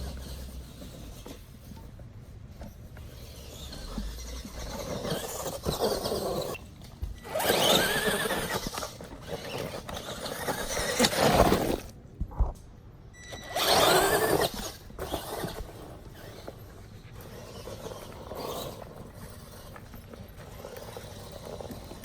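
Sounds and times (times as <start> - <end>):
electric toy truck motor whining: 0.0 - 1.5, 2.9 - 11.9, 13.2 - 22.0.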